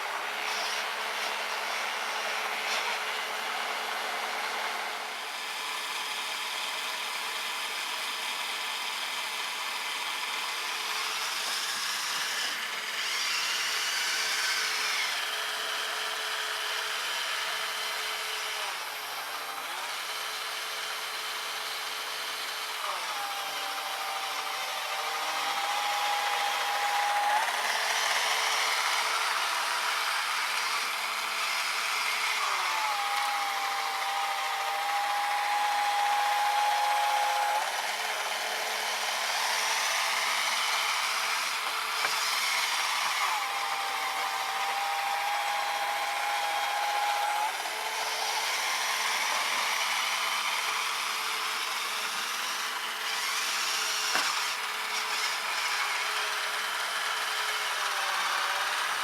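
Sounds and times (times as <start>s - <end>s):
electric motor whirring: 0.0s - 59.0s.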